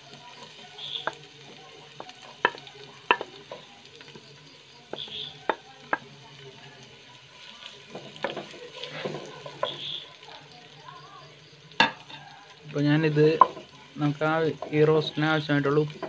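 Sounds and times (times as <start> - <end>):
shallots sizzling in oil: 0.0 - 16.0.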